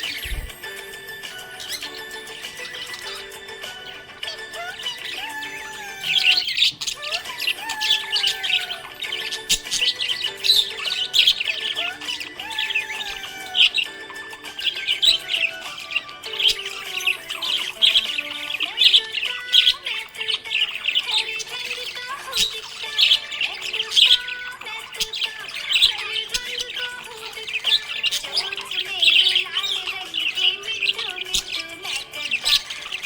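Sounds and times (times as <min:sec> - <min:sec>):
background music melody: 0:00.0 - 0:33.0
budgerigars chirping and warbling: 0:00.0 - 0:33.0.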